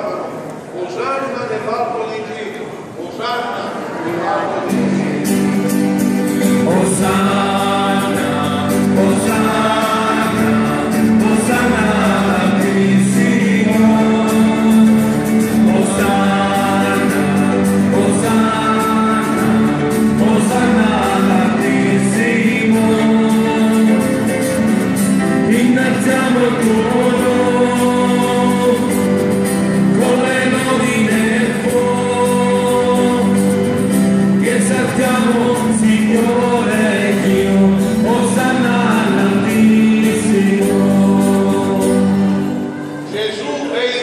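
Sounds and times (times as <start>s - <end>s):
choir singing a hymn: 3.8s - 44.0s
sustained instrumental accompaniment: 4.1s - 44.0s.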